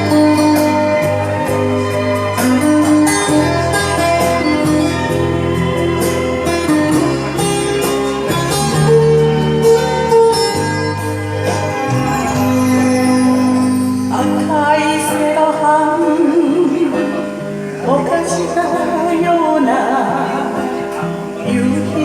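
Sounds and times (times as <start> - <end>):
instrumental ballad backing track: 0.0 - 22.0.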